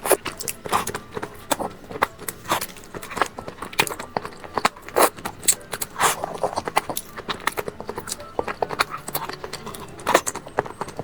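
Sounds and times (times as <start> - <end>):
chewing and biting: 0.0 - 11.0
crunchy smears: 0.0 - 11.0
sharp mouth clicks: 0.0 - 11.0.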